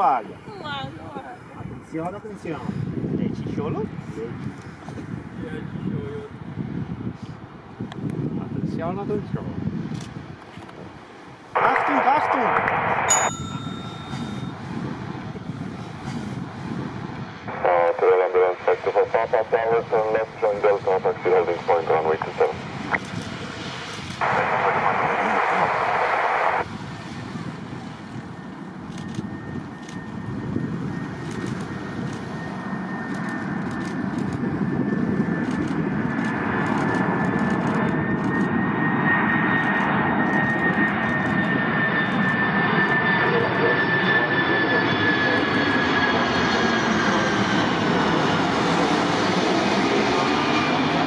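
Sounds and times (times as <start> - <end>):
jet engines passing: 0.0 - 51.0
high engine whine: 10.1 - 51.0.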